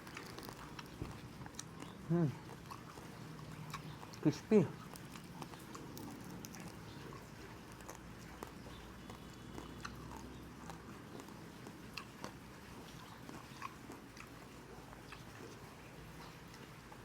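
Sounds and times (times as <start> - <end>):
crispy skin crunching: 0.0 - 16.7
person chewing: 0.0 - 17.0.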